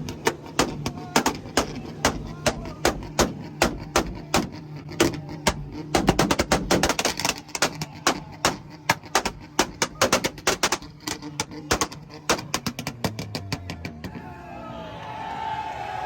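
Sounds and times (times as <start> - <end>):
car exhaust popping and crackling: 0.0 - 14.3
low engine note: 0.0 - 16.0.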